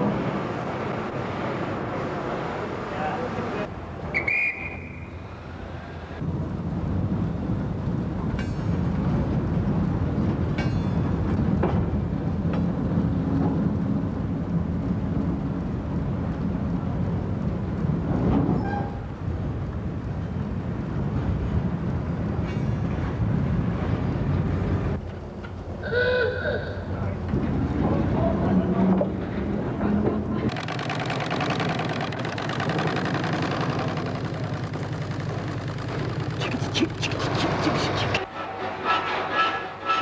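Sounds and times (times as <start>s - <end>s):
train rumbling on track: 0.0s - 40.0s.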